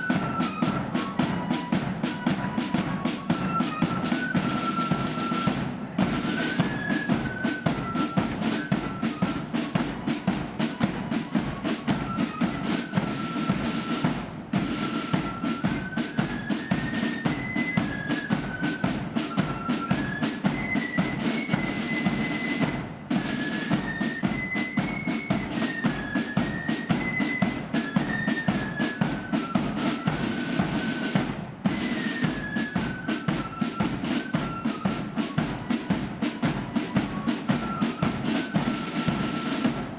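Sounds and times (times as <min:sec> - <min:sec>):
flutes playing melody: 0:00.0 - 0:39.9
snare drum rolls: 0:00.0 - 0:39.9.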